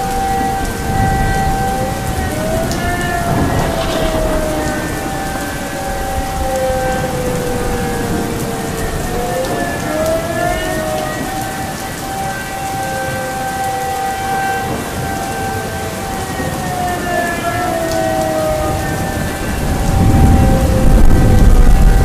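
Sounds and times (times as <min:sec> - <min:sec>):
air raid sirens: 0:00.0 - 0:22.0
steady rain: 0:00.0 - 0:22.0
thunder rumbling: 0:00.0 - 0:22.0.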